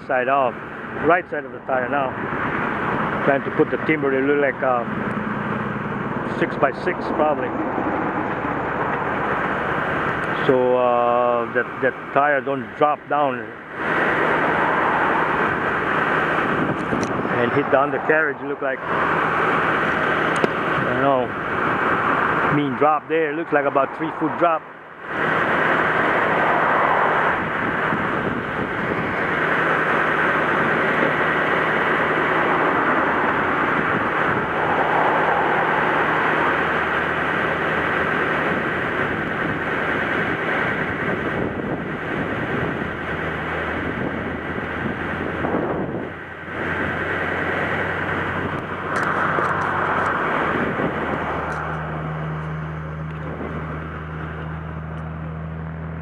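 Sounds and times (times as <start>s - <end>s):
surf: 0.0s - 54.9s
truck engine humming: 0.0s - 56.0s
wind: 0.0s - 56.0s.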